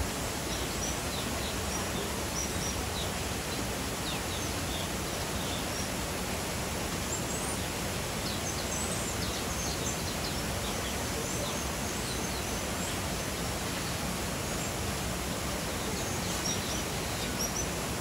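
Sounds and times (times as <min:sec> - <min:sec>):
background hiss: 0:00.0 - 0:18.0
birds chirping: 0:00.1 - 0:18.0.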